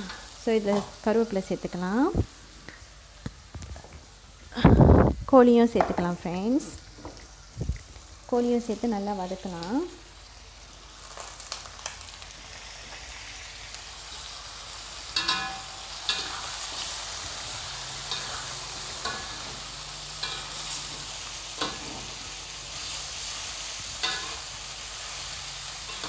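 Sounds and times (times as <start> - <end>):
chicken sizzling in oil: 0.0 - 4.5, 6.3 - 26.0.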